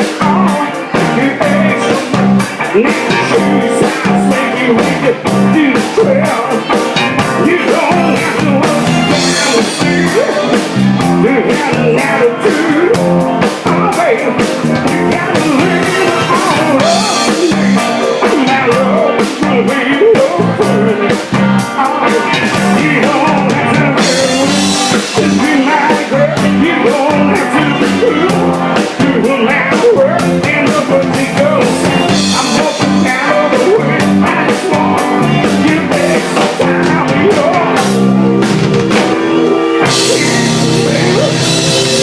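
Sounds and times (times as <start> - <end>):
bass guitar: 0.0 - 42.0
drum kit beat: 0.0 - 42.0
lead guitar with bending notes: 0.0 - 42.0.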